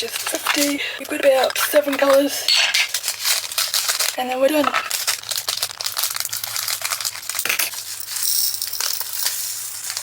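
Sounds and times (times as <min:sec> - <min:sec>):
tiny beads rattling into plastic container: 0:00.0 - 0:10.0.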